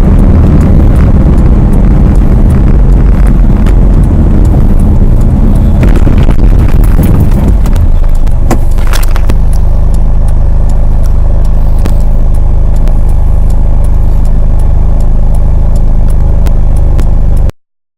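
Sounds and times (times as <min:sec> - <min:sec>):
sharp ticks and clicks: 0:00.0 - 0:17.6
vehicle engine humming: 0:00.0 - 0:17.6.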